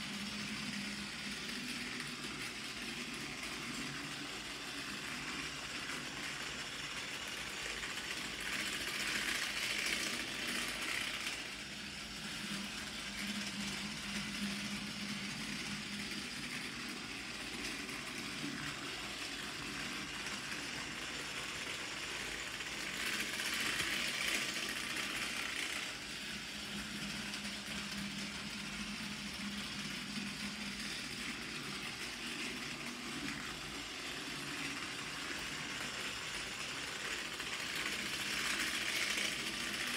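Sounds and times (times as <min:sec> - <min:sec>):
toy train motor whir: 0:00.0 - 0:39.9.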